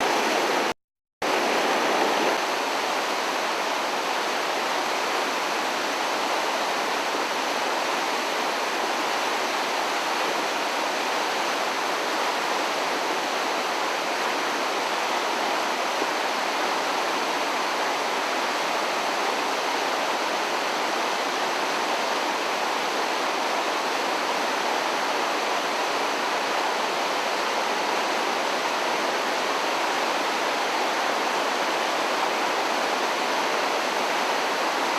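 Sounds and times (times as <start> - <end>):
floodwater rushing roar: 0.0 - 34.9.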